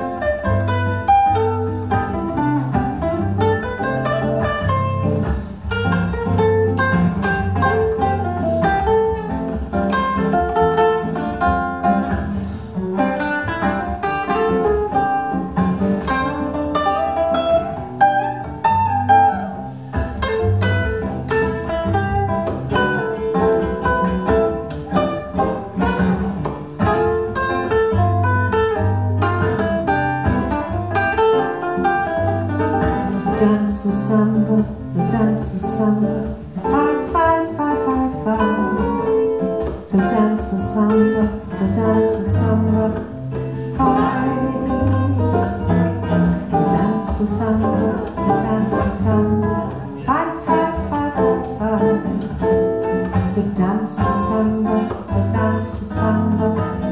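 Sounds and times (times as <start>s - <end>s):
classical guitar bossa nova: 0.0s - 56.9s.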